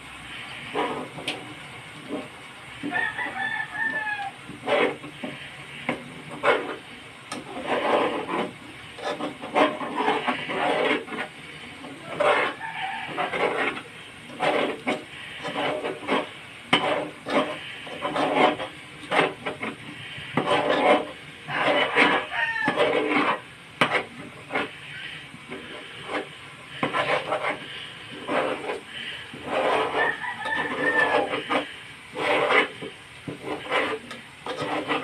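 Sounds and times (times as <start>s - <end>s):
metal spoon scraping a pot: 0.3s - 35.0s.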